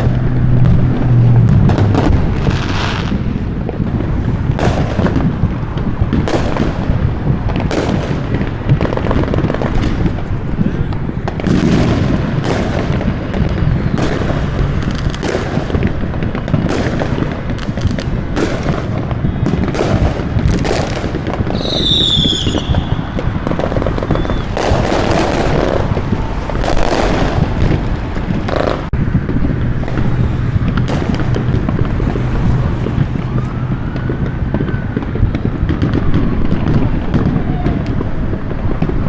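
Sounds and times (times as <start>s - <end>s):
fireworks banging: 0.0s - 39.0s
whistling firework: 0.0s - 39.0s.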